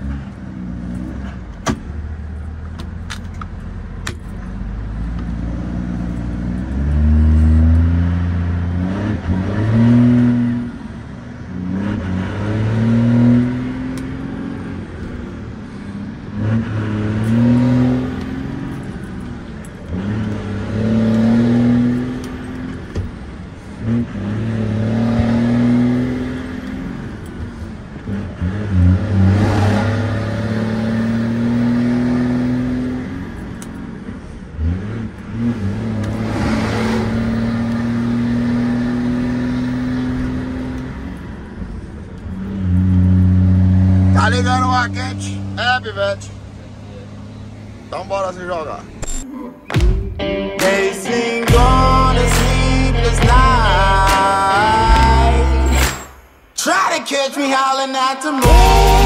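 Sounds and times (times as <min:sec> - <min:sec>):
diesel truck engine shifting gears: 0:00.0 - 0:50.2, 0:51.1 - 0:56.4.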